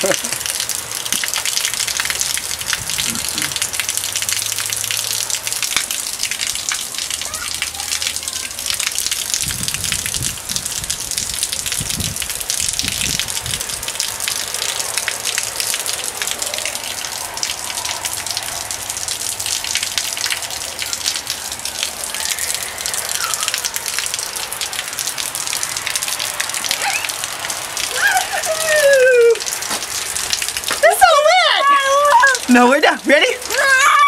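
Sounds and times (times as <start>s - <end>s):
rain pattering: 0.0s - 34.0s.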